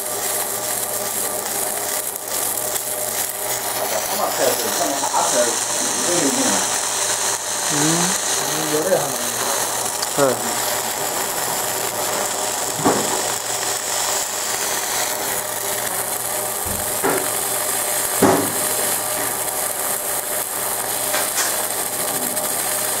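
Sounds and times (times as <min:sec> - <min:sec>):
laser engraver hiss and buzz: 0:00.0 - 0:23.0.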